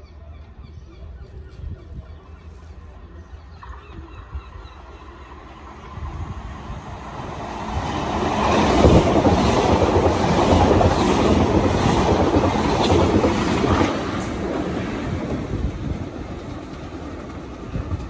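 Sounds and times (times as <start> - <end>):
train passing platform: 0.0 - 18.0
train wheels rumbling on rails: 3.4 - 18.0.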